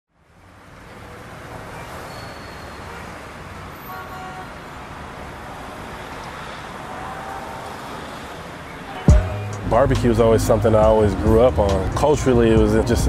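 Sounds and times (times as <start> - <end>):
distant traffic: 0.1 - 13.0.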